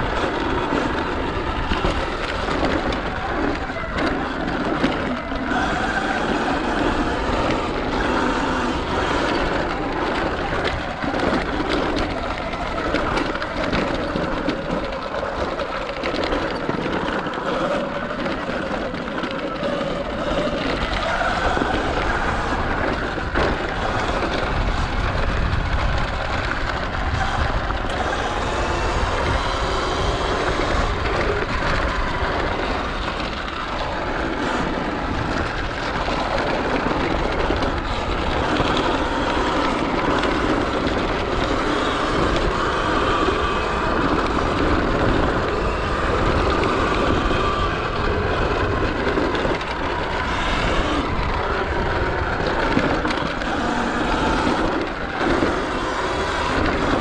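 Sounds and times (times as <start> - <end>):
electric motor whine: 0.0 - 57.0
rough rumbling noise: 0.0 - 57.0.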